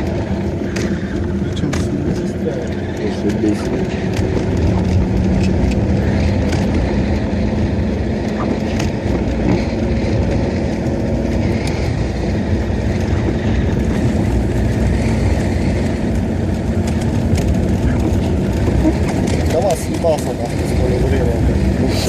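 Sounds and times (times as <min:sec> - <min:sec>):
car engine running low hum: 0:00.0 - 0:22.0.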